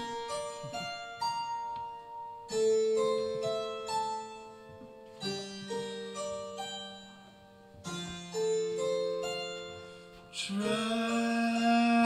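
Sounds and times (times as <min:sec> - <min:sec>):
electric keyboard playing chords: 0:00.0 - 0:12.0.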